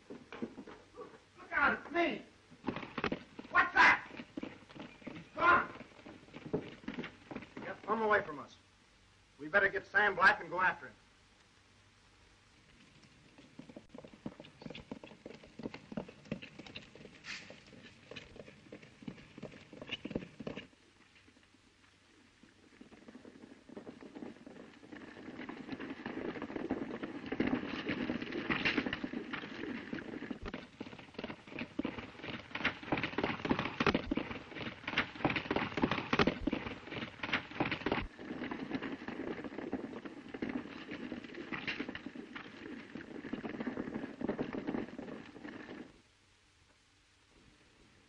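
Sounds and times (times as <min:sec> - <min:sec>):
horses galloping on dirt: 0:00.0 - 0:46.5.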